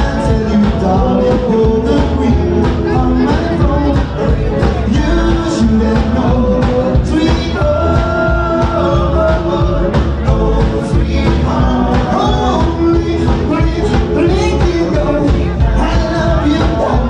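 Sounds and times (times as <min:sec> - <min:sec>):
rockabilly band playing live: 0:00.0 - 0:17.0.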